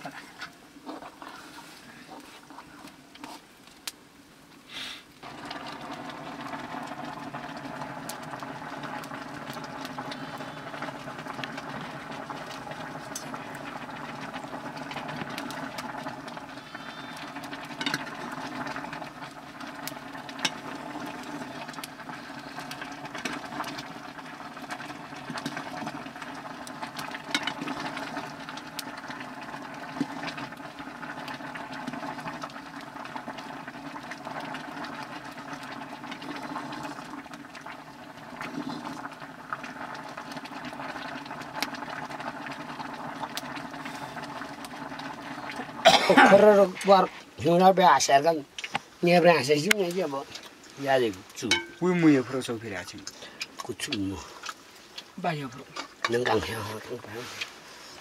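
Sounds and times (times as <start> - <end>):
curry simmering in a pot: 0.0 - 4.0, 5.2 - 58.0.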